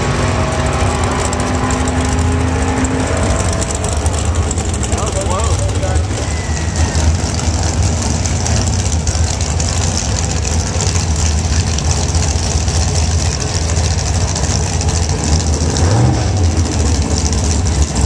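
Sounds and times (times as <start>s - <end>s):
racing car engines idling: 0.0s - 18.0s.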